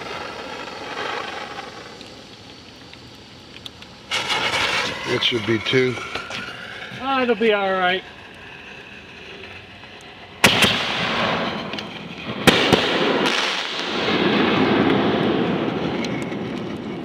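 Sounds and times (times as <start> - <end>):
firework crackling: 0.0 - 17.0
firework shells bursting: 0.0 - 17.0.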